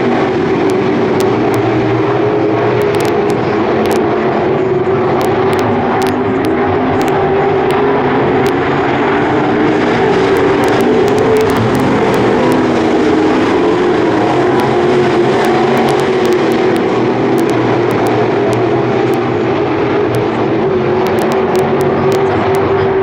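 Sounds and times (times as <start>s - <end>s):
race car engines running: 0.0s - 23.0s.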